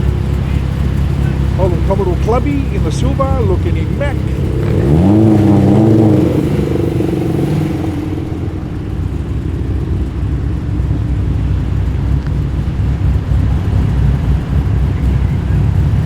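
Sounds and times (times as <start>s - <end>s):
car engine passing slowly: 0.0s - 16.0s.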